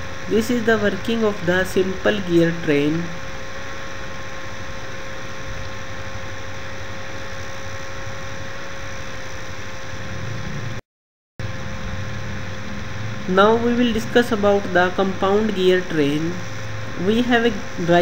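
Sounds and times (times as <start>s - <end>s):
background hiss and hum: 0.0s - 10.8s, 11.4s - 18.0s.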